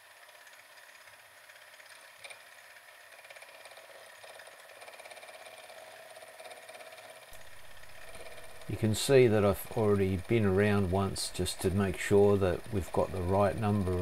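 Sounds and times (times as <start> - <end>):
milling machine rattling: 0.0 - 14.0.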